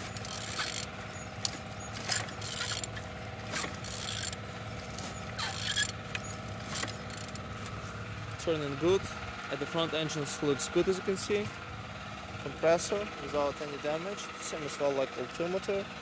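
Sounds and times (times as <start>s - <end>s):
low hum: 0.0s - 14.4s
engine turned over by hand: 0.0s - 16.0s.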